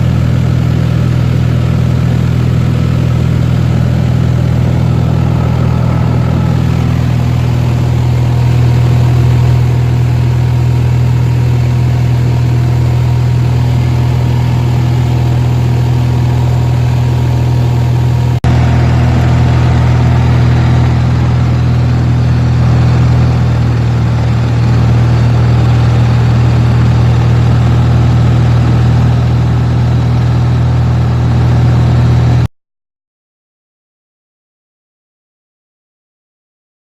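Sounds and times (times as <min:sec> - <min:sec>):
propeller plane engine drone: 0:00.0 - 0:32.5.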